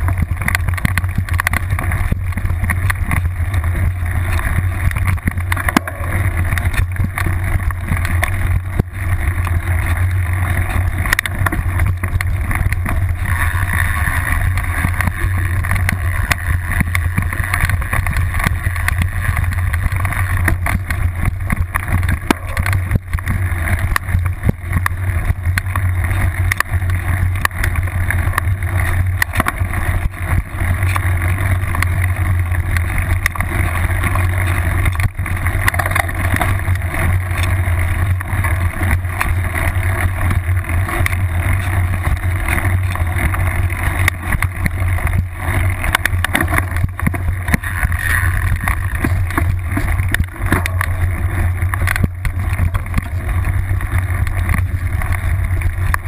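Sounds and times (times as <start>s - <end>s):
bike knocks and rattles: 0.0s - 56.0s
bike tyre and frame rumble: 0.0s - 56.0s.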